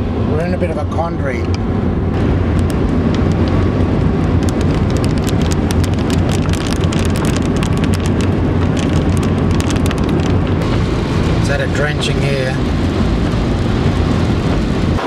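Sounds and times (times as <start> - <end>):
car humming: 0.0 - 15.0
heavy rain on a car: 2.2 - 15.0.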